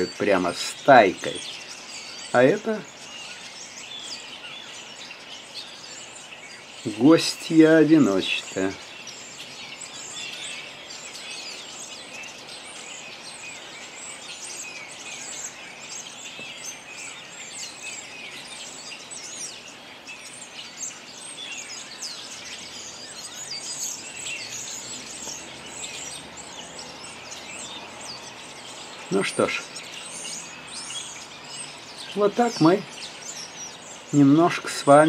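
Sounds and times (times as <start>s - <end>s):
faint background noise: 0.0s - 35.0s
small birds chirping: 0.0s - 35.0s.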